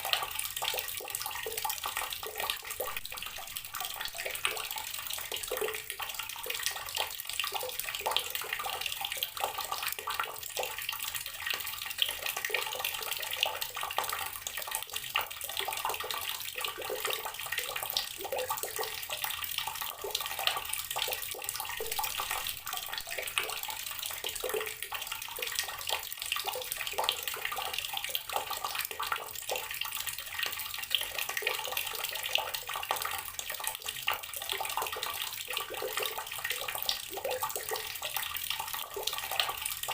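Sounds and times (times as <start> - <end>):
tap water pouring into water: 0.0 - 39.9.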